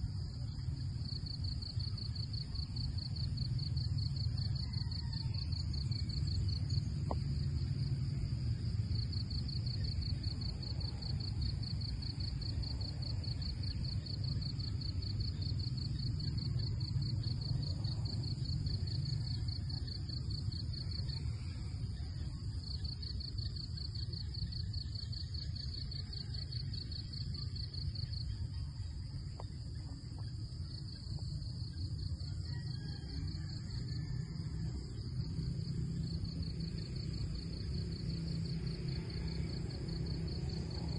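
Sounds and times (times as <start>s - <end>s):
insects trilling: 0.0s - 40.9s
low steady rumble: 0.0s - 40.9s.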